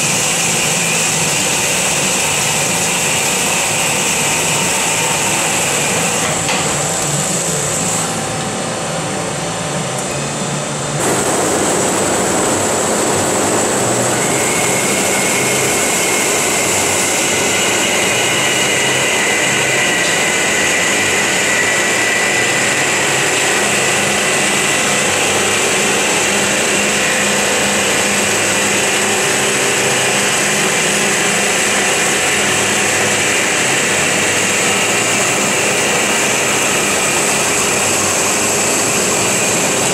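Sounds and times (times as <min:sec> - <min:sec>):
band saw running: 0:00.0 - 0:08.8, 0:10.8 - 0:39.9.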